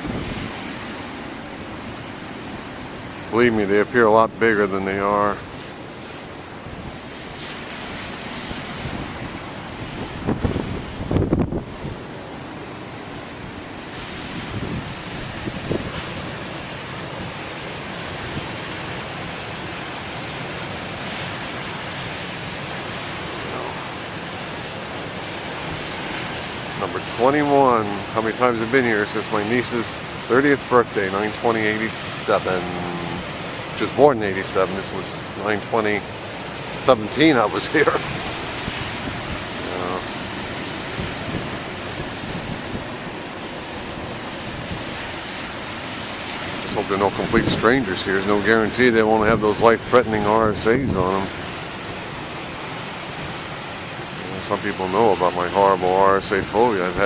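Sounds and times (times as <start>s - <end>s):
big waves crashing: 0.0s - 57.0s
surf washing up beach: 0.0s - 57.0s.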